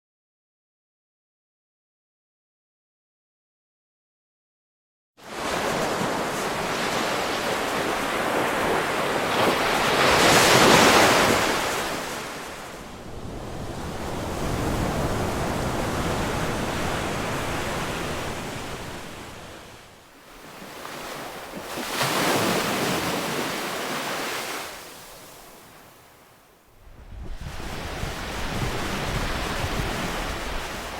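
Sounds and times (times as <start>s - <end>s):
ocean surf waves: 5.2s - 30.9s.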